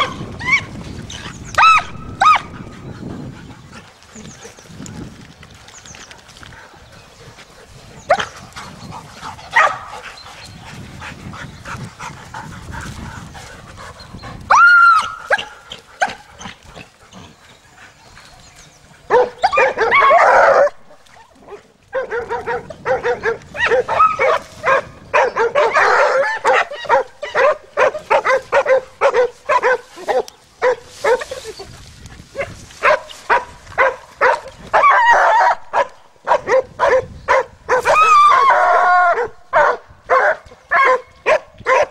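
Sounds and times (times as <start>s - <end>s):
hounds barking and baying: 0.0s - 4.7s, 6.4s - 41.9s.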